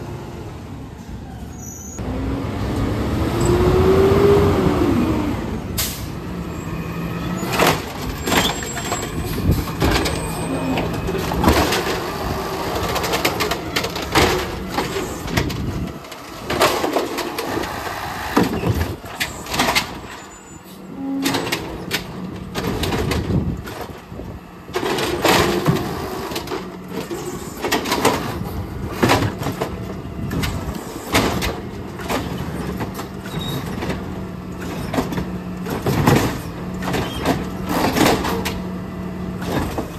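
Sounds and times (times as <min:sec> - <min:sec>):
truck engine and hydraulics hum: 0:00.0 - 0:39.9
garbage carts banging and clanking: 0:05.7 - 0:39.9.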